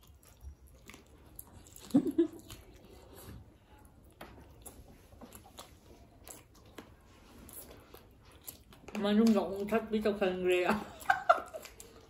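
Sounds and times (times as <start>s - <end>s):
wet chewing and lip smacks: 0.0s - 9.7s, 11.0s - 12.0s.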